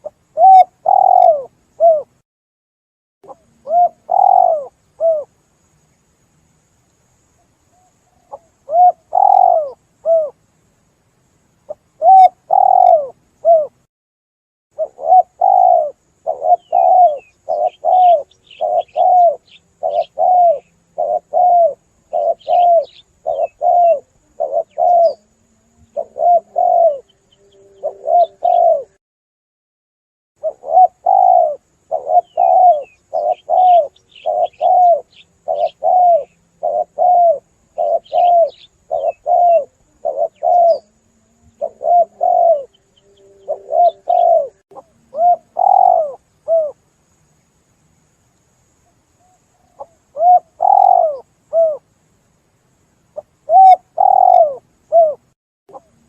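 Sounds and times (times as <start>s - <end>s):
doves cooing: 0.0s - 2.1s, 3.2s - 5.3s, 7.8s - 10.4s, 11.7s - 13.8s, 14.8s - 29.0s, 30.4s - 46.8s, 49.2s - 51.8s, 53.2s - 56.0s
faint high bird chirps: 0.0s - 2.2s, 3.2s - 5.3s, 7.3s - 10.4s, 11.6s - 13.8s, 14.8s - 29.0s, 30.4s - 46.8s, 48.8s - 51.9s, 53.1s - 56.0s.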